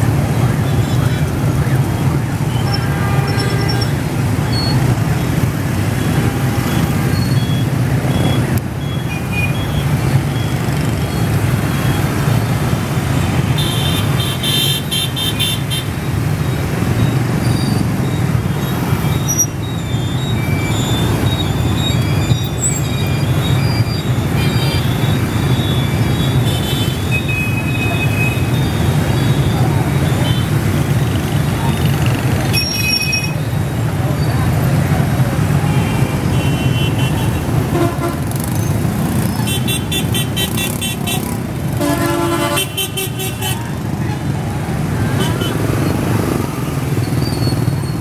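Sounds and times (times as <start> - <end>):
motorbike and scooter traffic: 0.0 - 48.0
horns tooting: 0.3 - 48.0.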